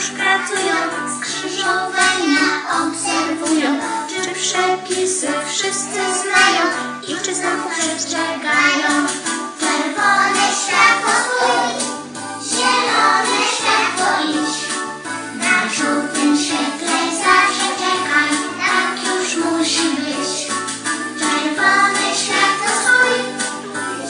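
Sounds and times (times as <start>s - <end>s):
children singing: 0.0s - 4.3s, 5.5s - 20.6s, 21.2s - 24.0s
children's song backing track: 0.0s - 24.0s.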